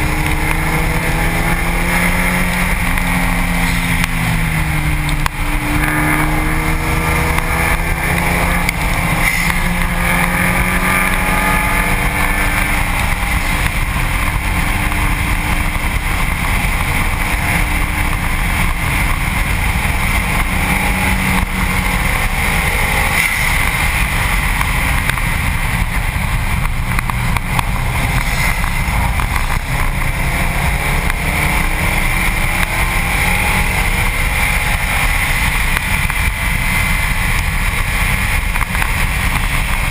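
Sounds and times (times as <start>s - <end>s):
car engine accelerating: 0.0s - 39.9s
heavy wind noise: 0.0s - 39.9s
tyres roaring on asphalt: 0.0s - 39.9s.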